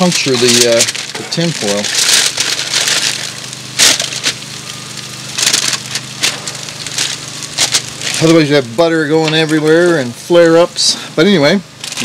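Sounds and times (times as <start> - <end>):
foil crinkling: 0.0 - 10.7
steady low hum: 0.0 - 12.0.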